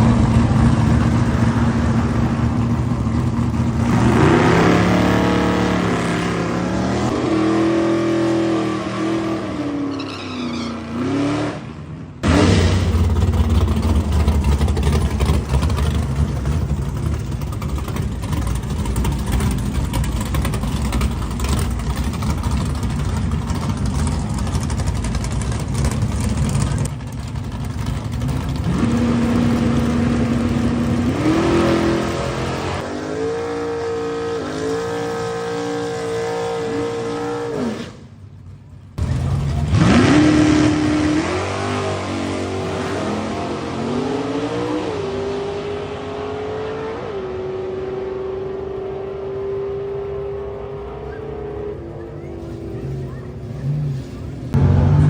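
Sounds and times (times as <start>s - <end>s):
car engine revving: 0.0s - 38.2s, 39.0s - 55.0s.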